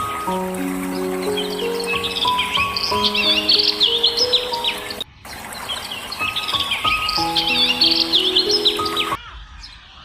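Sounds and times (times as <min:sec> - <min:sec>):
soft instrumental music: 0:00.0 - 0:05.1, 0:06.1 - 0:09.2
birds chirping: 0:00.0 - 0:10.0.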